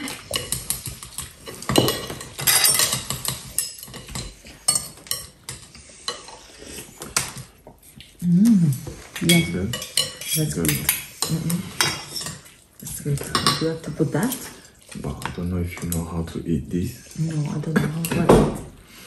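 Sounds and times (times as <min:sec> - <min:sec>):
cutlery clinking on ceramic bowls: 0:00.0 - 0:16.4, 0:17.6 - 0:18.6.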